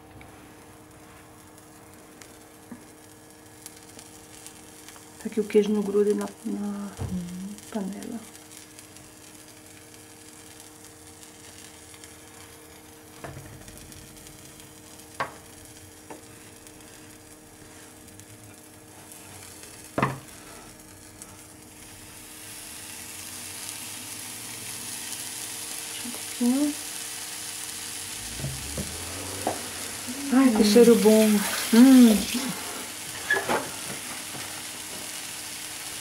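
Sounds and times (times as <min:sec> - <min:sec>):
faint sizzle: 0:00.0 - 0:36.0.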